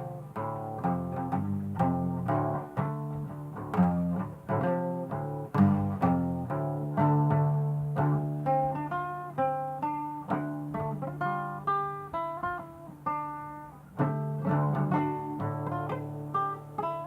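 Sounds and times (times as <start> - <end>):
guitar notes picked: 0.0 - 17.0.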